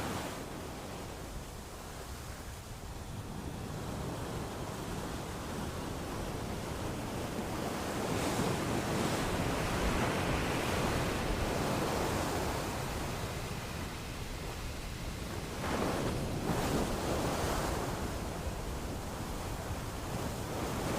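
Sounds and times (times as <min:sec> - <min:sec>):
sea waves breaking: 0:03.3 - 0:20.9.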